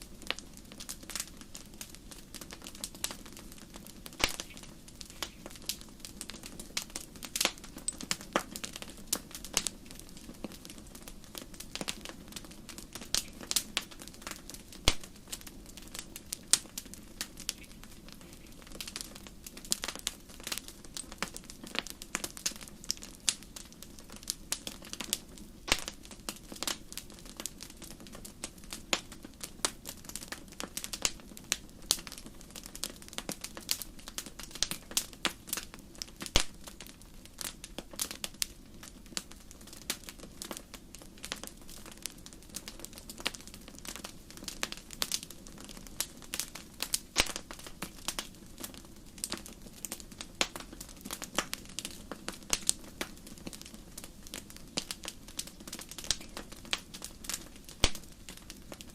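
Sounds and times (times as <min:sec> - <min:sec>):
campfire crackling and popping: 0:00.0 - 0:58.9
low rush of burning fire: 0:00.0 - 0:58.9.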